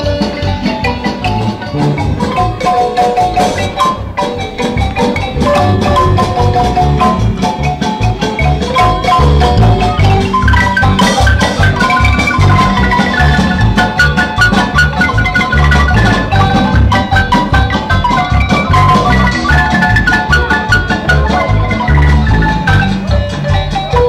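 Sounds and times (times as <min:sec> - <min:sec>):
marimba runs: 0:00.0 - 0:24.0
pounding low beat: 0:01.1 - 0:22.9.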